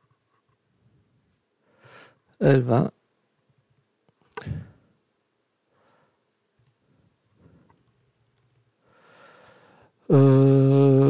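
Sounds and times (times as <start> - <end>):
faint small sounds: 0.0 - 10.3.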